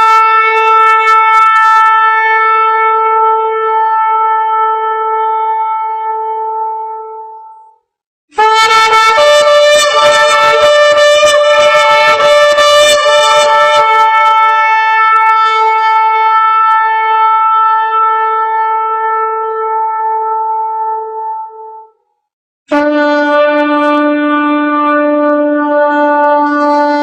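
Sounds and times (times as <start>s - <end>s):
trumpet playing long held notes: 0.0s - 22.0s, 22.7s - 27.0s.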